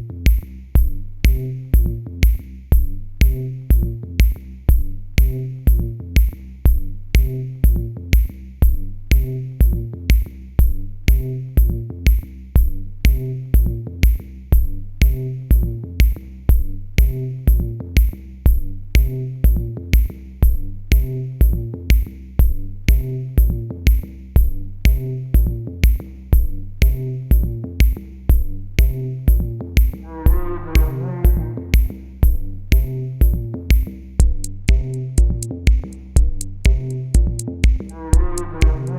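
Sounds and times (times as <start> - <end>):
electronic music with drum machine: 0.0 - 38.9.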